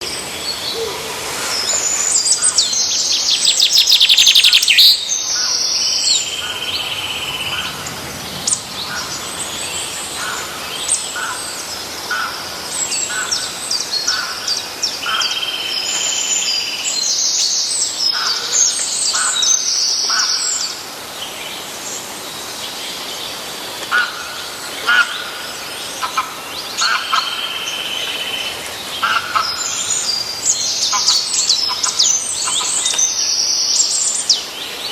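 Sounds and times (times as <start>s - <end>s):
songbirds warbling and trilling: 0.0s - 34.9s.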